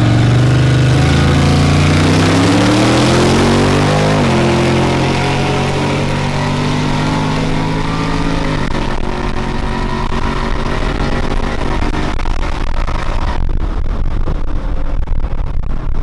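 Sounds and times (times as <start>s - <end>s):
truck exhaust droning: 0.0s - 16.0s.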